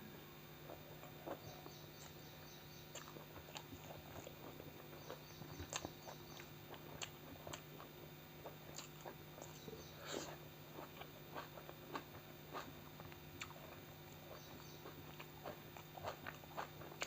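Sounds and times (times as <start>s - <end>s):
faint steady hum: 0.0s - 17.0s
person chewing food: 0.6s - 17.0s.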